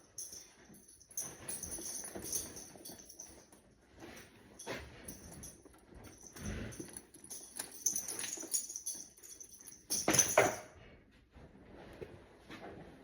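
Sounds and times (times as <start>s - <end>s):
light metallic jingling: 0.0s - 10.8s.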